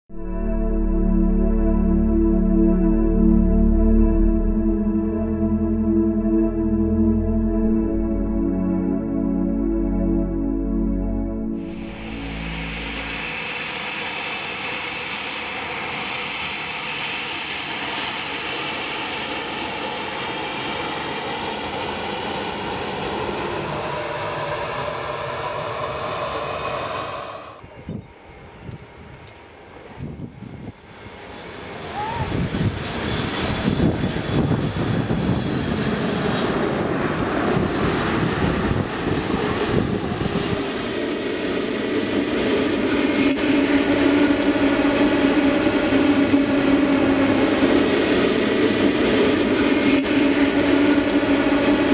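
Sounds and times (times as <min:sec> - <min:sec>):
landing jet rumble: 0:00.1 - 0:51.9
jet engines whining: 0:03.2 - 0:51.9.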